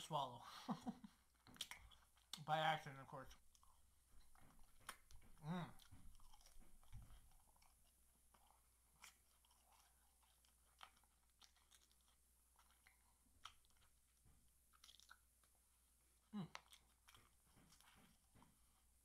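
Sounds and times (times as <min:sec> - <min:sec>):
mouth clicks and smacks: 0:01.3 - 0:14.0, 0:14.7 - 0:15.6, 0:16.2 - 0:18.2
person chewing and crunching: 0:01.3 - 0:19.0.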